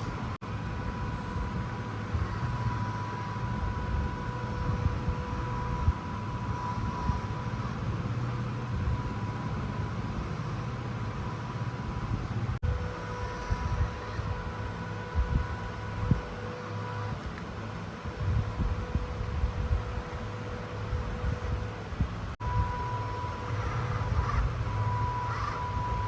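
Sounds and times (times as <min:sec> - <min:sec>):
electric motor whine: 0:00.0 - 0:26.0.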